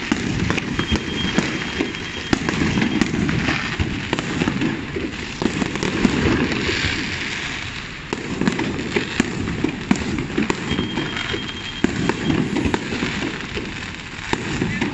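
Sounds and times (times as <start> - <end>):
fireworks bangs and crackling pops: 0.0 - 14.9.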